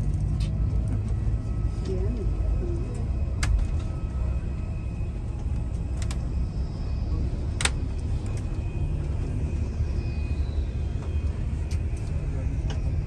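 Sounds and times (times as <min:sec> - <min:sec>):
bus driving low rumble: 0:00.0 - 0:13.0.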